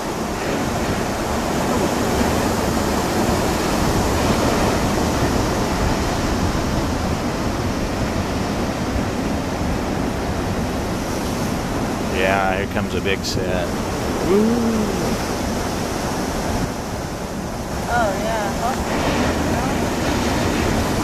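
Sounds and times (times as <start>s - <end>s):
ocean surf breaking over rocks: 0.0s - 21.0s.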